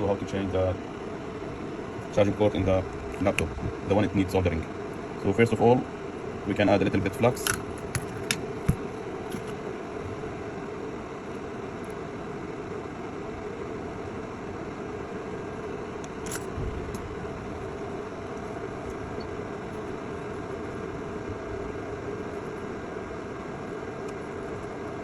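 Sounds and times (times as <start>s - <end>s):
fan whirring: 0.0s - 25.0s.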